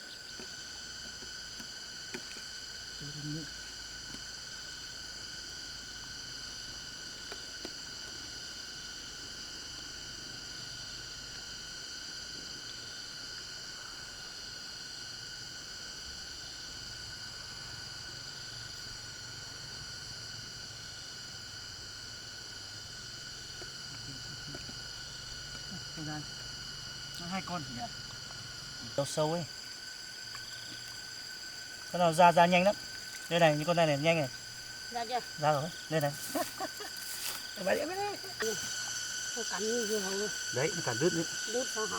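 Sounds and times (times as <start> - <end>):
insect chorus trilling: 0.0 - 41.9.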